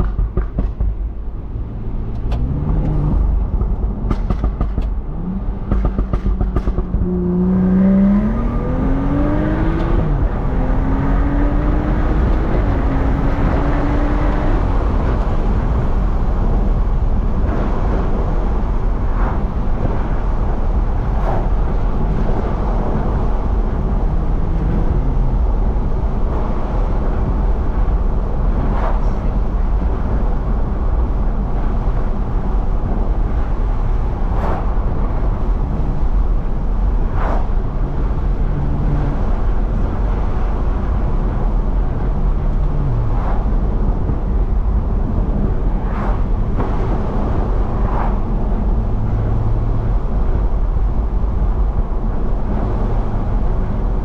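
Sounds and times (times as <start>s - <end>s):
car engine accelerating: 0.0s - 54.0s
road rumble: 0.0s - 54.0s.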